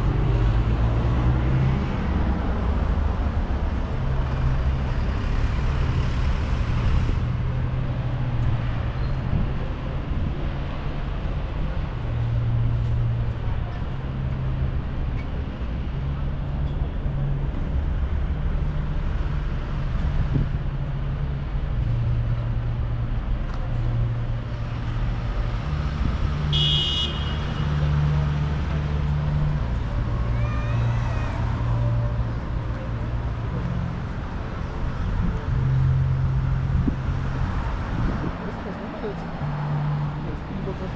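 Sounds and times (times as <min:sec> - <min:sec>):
traffic engine hum: 0:00.0 - 0:40.9.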